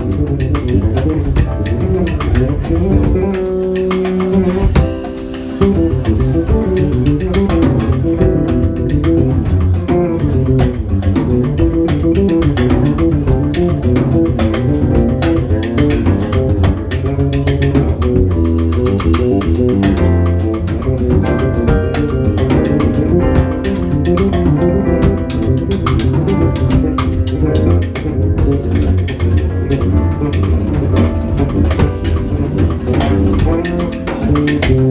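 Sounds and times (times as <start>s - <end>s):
drum kit: 0.0s - 34.9s
electric bass quick notes: 0.0s - 34.9s
jazz quartet playing: 0.0s - 34.9s.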